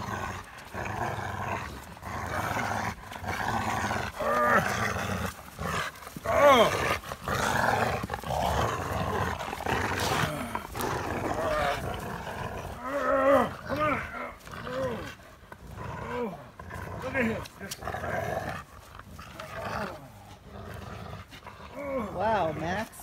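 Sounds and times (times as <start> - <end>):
dogs growling: 0.0 - 23.0.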